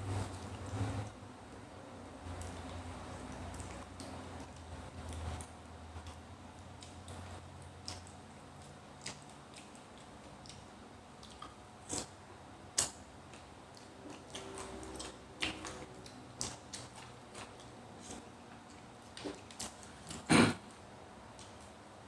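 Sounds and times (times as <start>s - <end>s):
chewing and eating noises: 0.0s - 22.0s.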